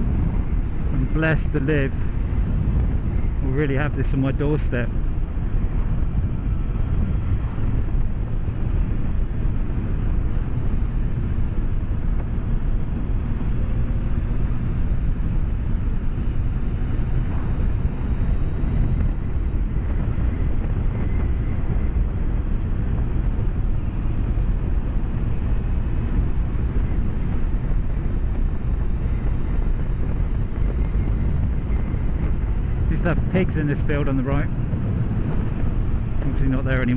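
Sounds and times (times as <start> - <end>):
motorcycle engine rumble: 0.0 - 36.9
road noise: 0.0 - 36.9
wind noise: 0.0 - 36.9.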